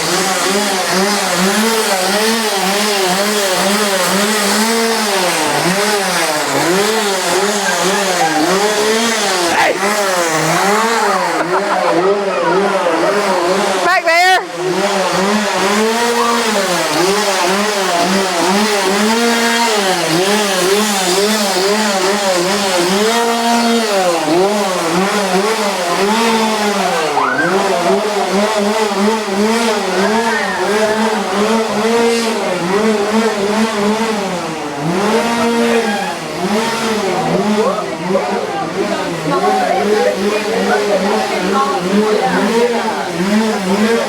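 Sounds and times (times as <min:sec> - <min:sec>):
small engine revving: 0:00.0 - 0:44.0.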